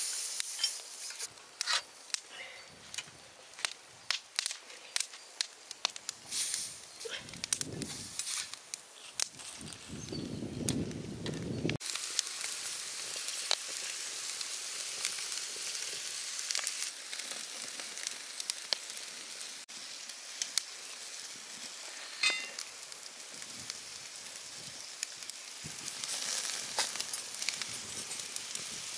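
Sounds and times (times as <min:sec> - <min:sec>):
coals crackling and popping: 0:00.0 - 0:28.9
meat sizzling over charcoal: 0:00.0 - 0:28.9.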